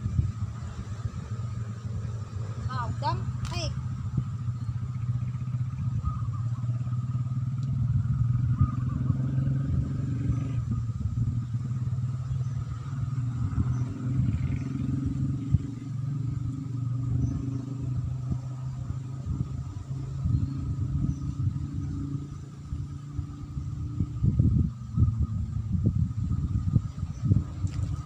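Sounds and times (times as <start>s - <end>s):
low engine hum: 0.0s - 28.0s.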